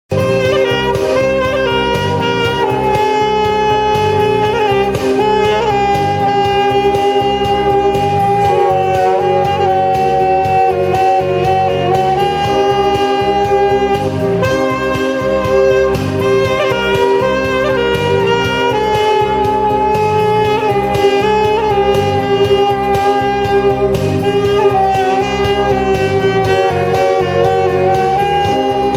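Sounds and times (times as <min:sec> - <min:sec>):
accompaniment with steady beat: 0:00.1 - 0:28.9
saxophone long notes: 0:00.1 - 0:28.9.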